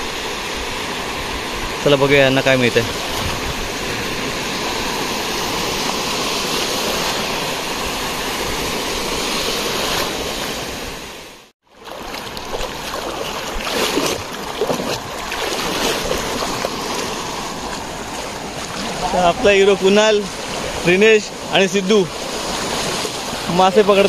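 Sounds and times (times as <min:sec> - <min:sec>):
sea waves washing onto beach: 0:00.0 - 0:24.0.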